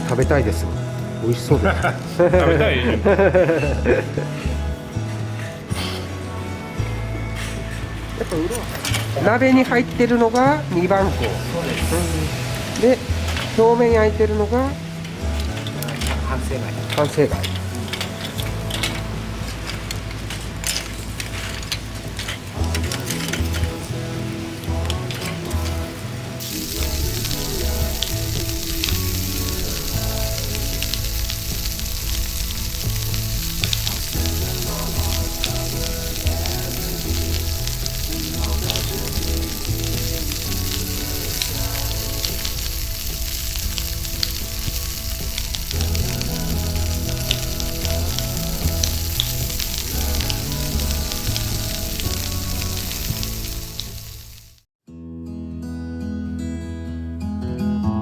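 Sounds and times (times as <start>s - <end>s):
scallops sizzling on a grill: 0.0s - 54.6s
background music: 0.0s - 58.0s.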